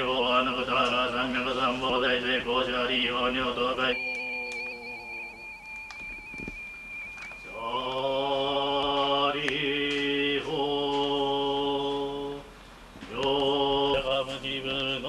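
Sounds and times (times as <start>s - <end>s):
voices chanting low notes: 0.0s - 12.4s.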